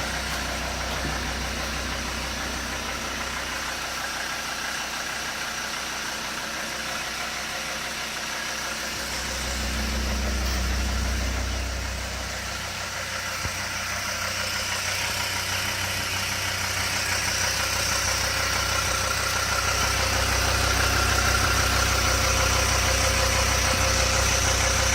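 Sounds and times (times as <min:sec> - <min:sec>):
deep rumble: 0:00.0 - 0:04.5, 0:08.6 - 0:24.9
diesel engine knocking: 0:00.0 - 0:24.9.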